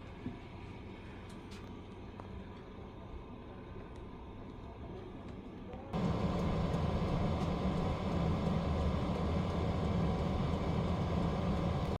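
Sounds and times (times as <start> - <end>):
heater running with low rumble: 0.0 - 12.0.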